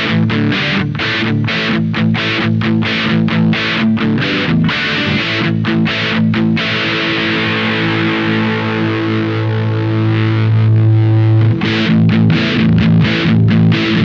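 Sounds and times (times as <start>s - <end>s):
distorted electric guitar: 0.0s - 14.0s.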